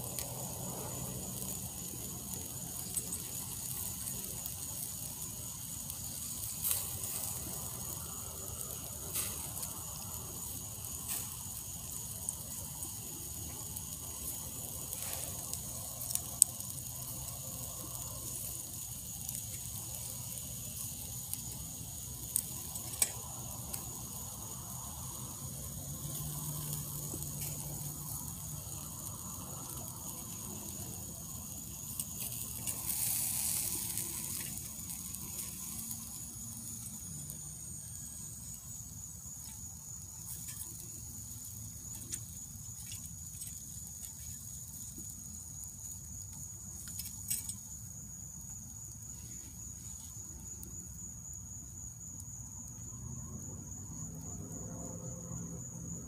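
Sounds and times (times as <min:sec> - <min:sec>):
embers crackling: 0:00.0 - 0:50.9
ribs sizzling on a grill: 0:00.0 - 0:56.0.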